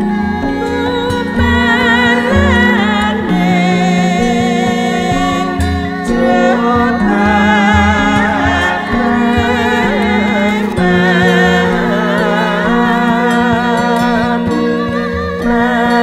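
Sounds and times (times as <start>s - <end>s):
gamelan ensemble playing: 0.0s - 16.0s.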